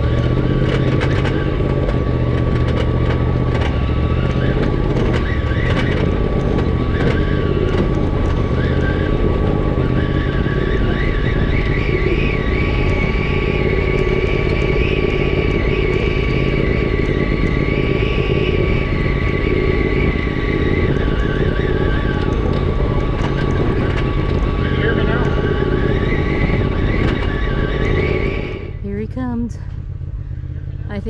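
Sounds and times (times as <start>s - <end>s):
high engine whine: 0.0s - 31.0s
utility vehicle engine running: 0.0s - 31.0s.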